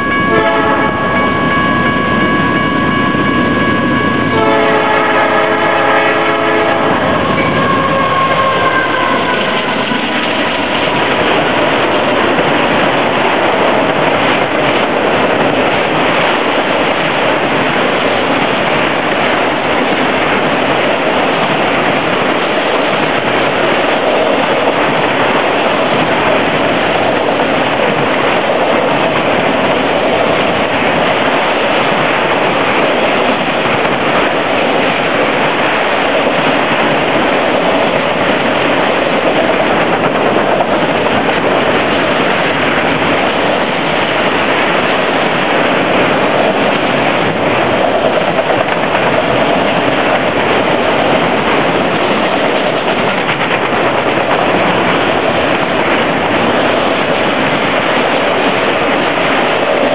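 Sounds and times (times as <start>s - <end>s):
freight train wheels rolling on rails: 0.0s - 59.9s.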